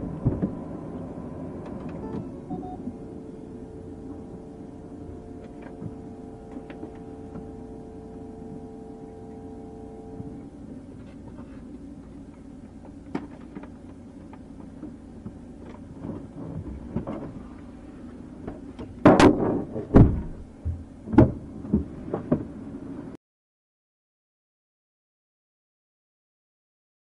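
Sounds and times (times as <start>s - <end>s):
steady low hum: 0.0s - 23.2s.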